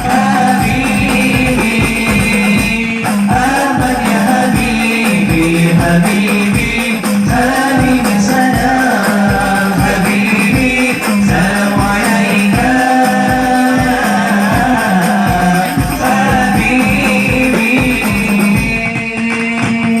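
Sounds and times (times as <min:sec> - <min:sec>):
hand-struck frame drums: 0:00.0 - 0:20.0
voices singing devotional song: 0:00.0 - 0:20.0.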